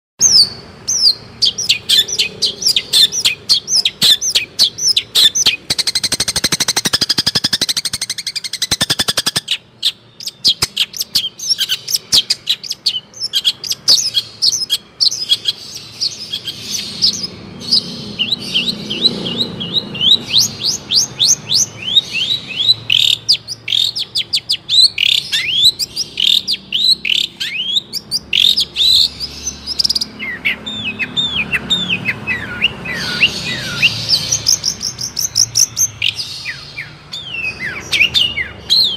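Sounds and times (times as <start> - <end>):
bird high chirps: 0.2 - 38.9
bird rapid rattling trill: 0.2 - 38.9
bird singing: 0.2 - 38.9.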